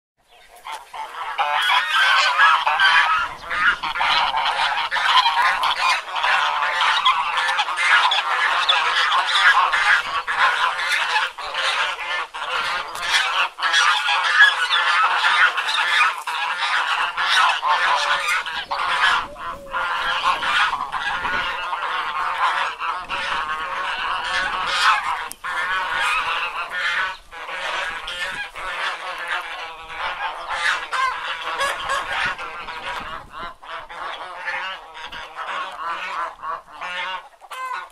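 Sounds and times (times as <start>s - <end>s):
geese honking: 0.2s - 37.9s.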